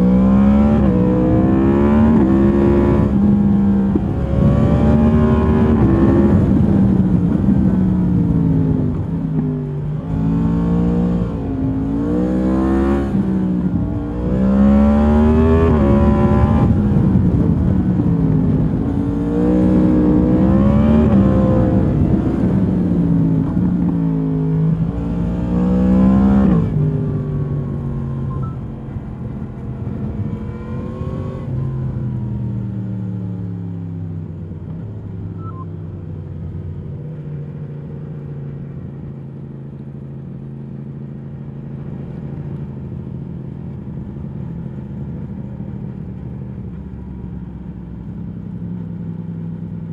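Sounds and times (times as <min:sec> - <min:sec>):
motorcycle engine revving and idling: 0:00.0 - 0:49.9.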